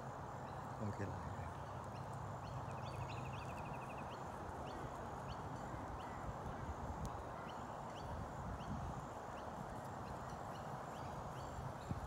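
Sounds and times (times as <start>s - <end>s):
outdoor background noise: 0.0s - 12.0s
small birds chirping: 0.3s - 12.0s.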